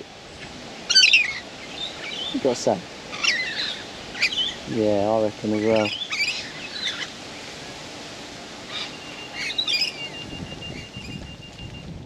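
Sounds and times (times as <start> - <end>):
birds chirping: 0.0 - 7.8, 8.6 - 12.0
outdoor background noise: 0.0 - 12.0.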